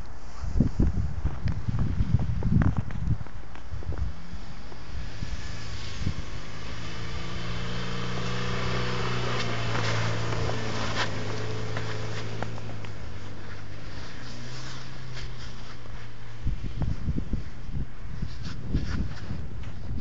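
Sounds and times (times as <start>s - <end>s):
car engine under throttle: 1.3s - 20.0s.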